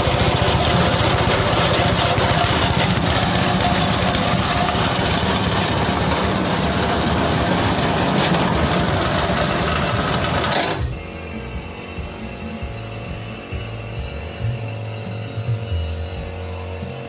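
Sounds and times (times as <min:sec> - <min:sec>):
shredding machine running: 0:00.0 - 0:17.0.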